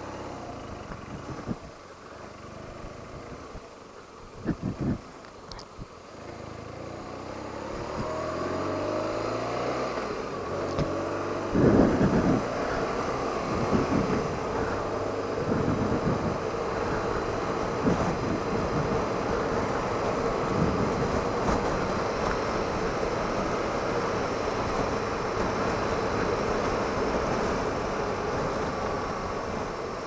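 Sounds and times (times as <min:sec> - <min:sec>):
motorcycle engine accelerating: 0:00.0 - 0:30.0
wind buffeting microphone: 0:00.5 - 0:01.8, 0:02.5 - 0:06.0, 0:10.3 - 0:30.0.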